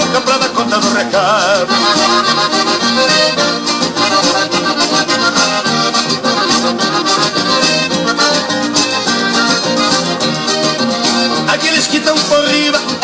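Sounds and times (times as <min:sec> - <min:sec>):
accordion music with steady beat: 0:00.0 - 0:13.0.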